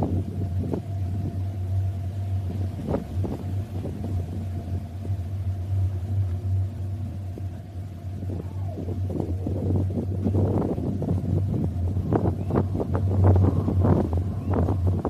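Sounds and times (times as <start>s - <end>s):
faint high whine: 0.0s - 15.0s
motor running low rumble: 0.0s - 15.0s.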